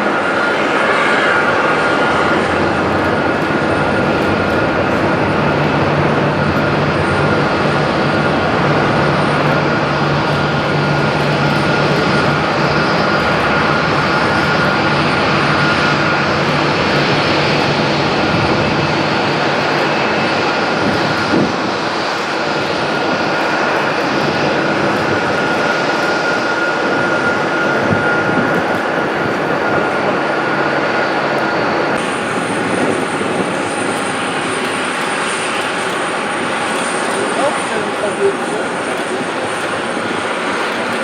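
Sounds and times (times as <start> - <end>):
airliner engines whining: 0.0 - 41.0.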